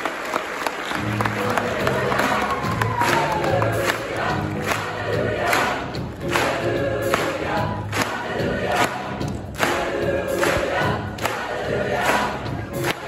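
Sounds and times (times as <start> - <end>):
band accompaniment: 0.9 - 13.0
choir singing gospel: 1.2 - 13.0.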